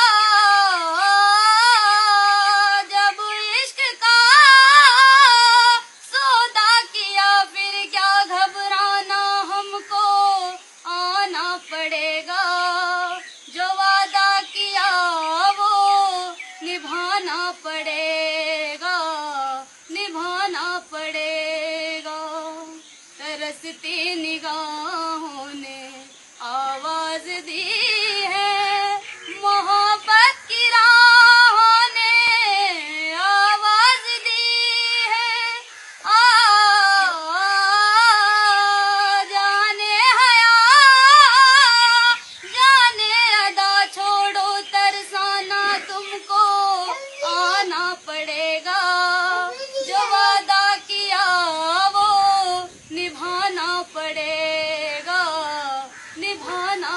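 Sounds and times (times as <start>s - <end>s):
woman singing unaccompanied: 0.0s - 56.9s.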